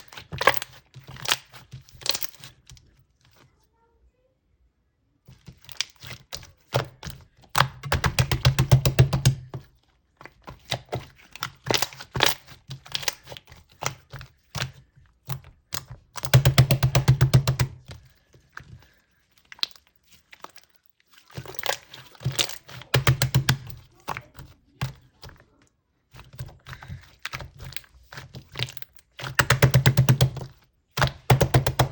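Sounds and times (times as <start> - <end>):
slime squished by hand: 0.0 - 3.5, 5.2 - 31.9.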